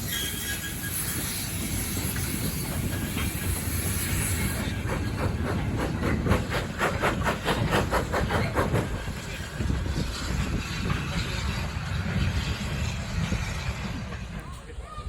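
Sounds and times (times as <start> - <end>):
steam hissing: 0.0 - 14.3
steam train chuffing: 0.0 - 14.8
train rumble: 0.0 - 15.0.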